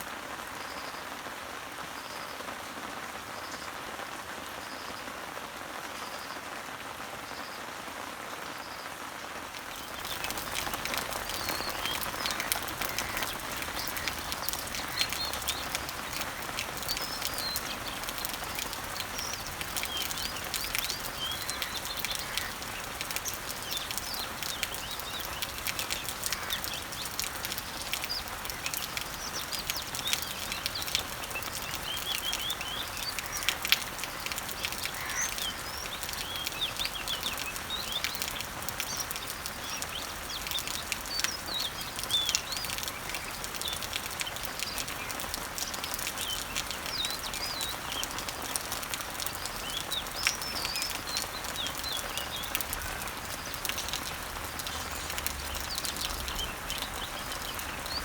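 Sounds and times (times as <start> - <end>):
rain pattering on leaves: 0.0 - 58.0
birds chirping: 9.5 - 58.0.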